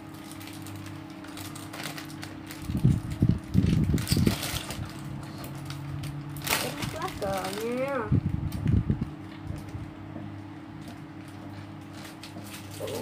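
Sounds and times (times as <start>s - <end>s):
steady low hum: 0.0s - 13.0s
plastic bags thumping and rustling: 0.1s - 13.0s.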